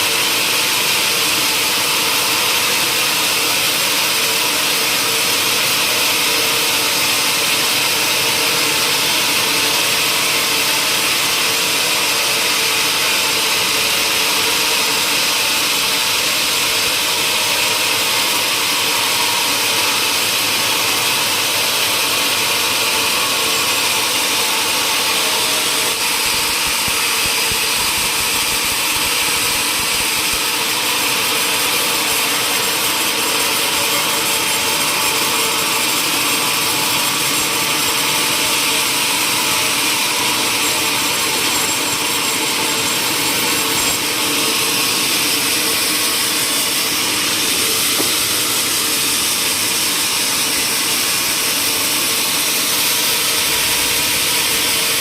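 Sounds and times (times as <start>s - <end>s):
power saw cutting wood: 0.0s - 55.0s.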